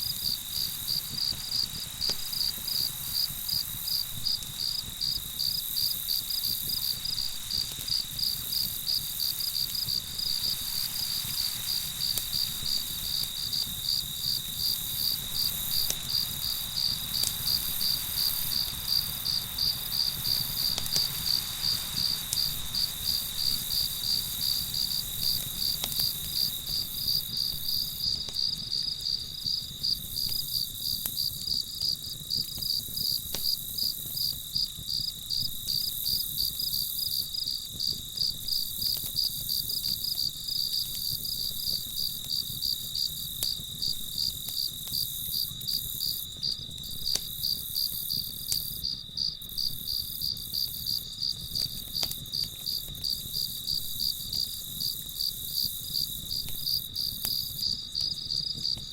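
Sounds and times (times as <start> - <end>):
crickets chirping: 0.0 - 58.9
faint campfire crackles: 0.0 - 58.9.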